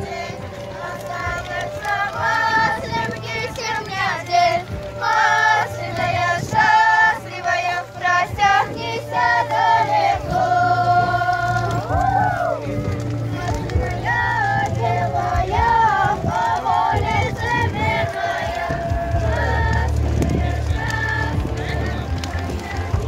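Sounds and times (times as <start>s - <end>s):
women and children singing: 0.0s - 23.0s.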